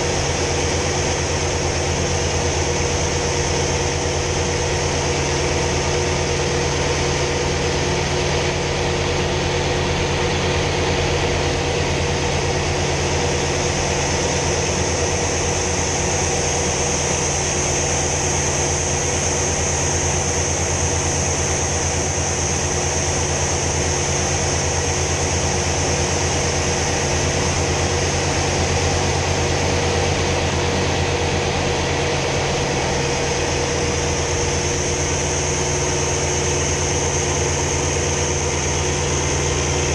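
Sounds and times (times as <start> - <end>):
piston aircraft engine drone: 0.0 - 39.9.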